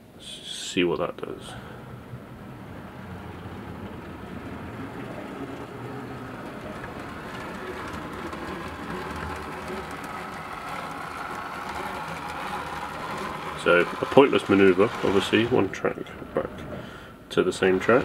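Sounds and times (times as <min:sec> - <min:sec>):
model train motor whirring: 0:02.6 - 0:16.7, 0:17.4 - 0:18.0.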